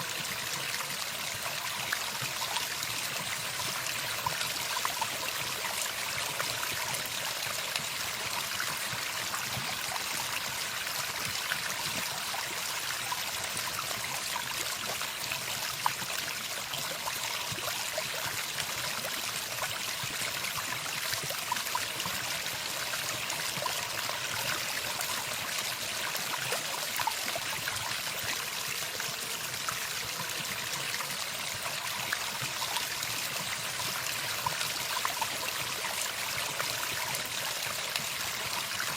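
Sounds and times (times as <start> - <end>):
stream trickling and flowing: 0.0 - 38.9.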